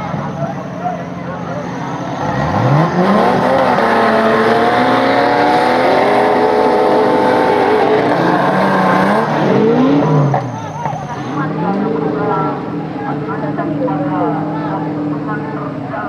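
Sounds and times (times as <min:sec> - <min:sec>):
car engine revving hard: 0:01.4 - 0:15.8.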